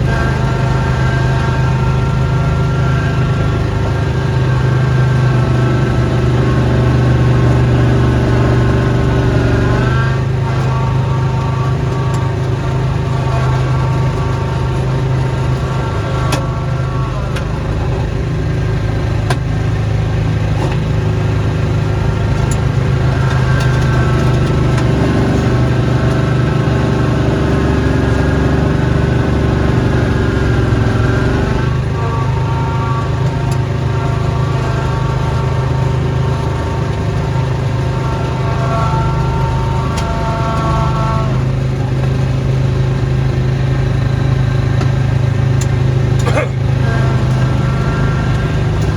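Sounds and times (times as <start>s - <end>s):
high whine sliding in pitch: 0.0s - 48.9s
snowblower engine running: 0.0s - 48.9s.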